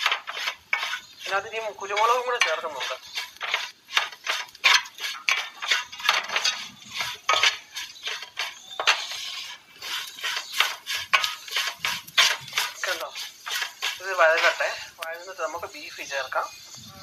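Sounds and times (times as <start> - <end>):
spoon scraping a metal pot: 0.0 - 17.0.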